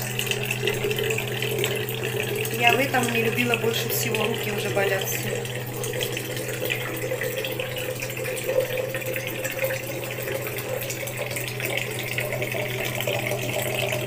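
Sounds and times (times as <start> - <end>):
electric water pump humming: 0.0 - 14.0
water splashing into a jug: 0.0 - 14.0.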